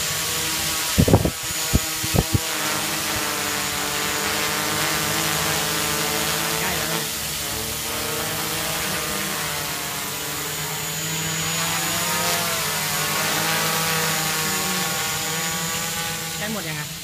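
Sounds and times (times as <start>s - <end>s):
quadcopter motors humming: 0.0s - 17.0s.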